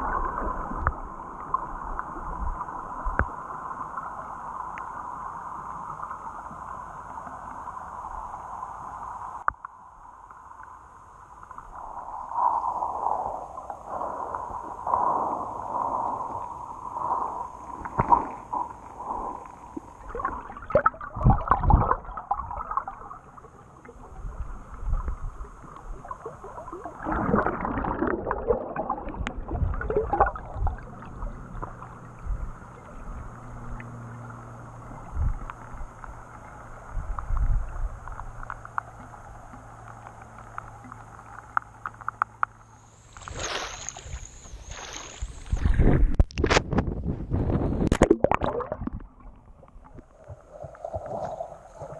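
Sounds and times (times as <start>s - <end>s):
underwater river gurgling: 0.0s - 51.9s
faint low hum: 3.9s - 51.9s.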